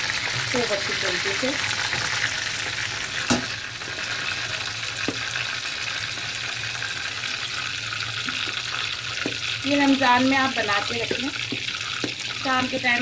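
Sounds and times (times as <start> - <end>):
lentils sizzling in a pot: 0.0 - 13.0.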